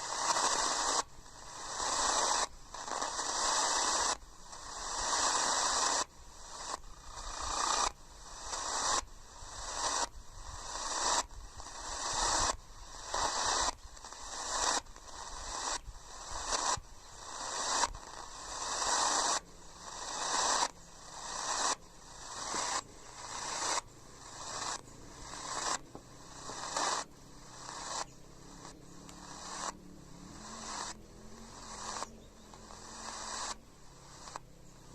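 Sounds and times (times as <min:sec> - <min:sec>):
pulsed radio static: 0:00.0 - 0:34.9.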